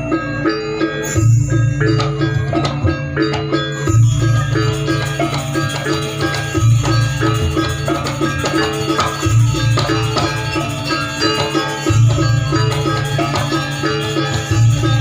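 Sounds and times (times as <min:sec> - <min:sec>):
gamelan ensemble playing: 0:00.0 - 0:15.0.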